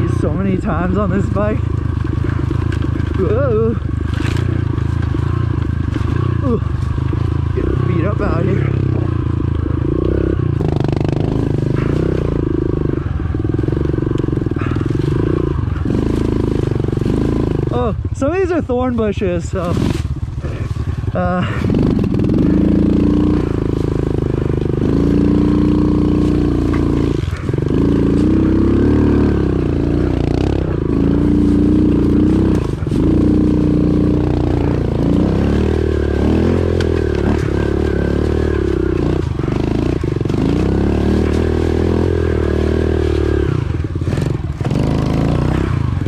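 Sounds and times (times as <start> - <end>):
motorbike engine revving: 0.0 - 46.0.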